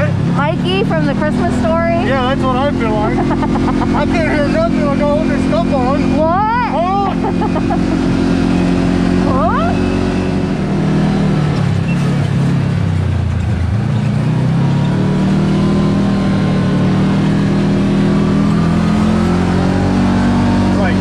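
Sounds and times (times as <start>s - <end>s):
engine running and accelerating: 0.0s - 21.0s.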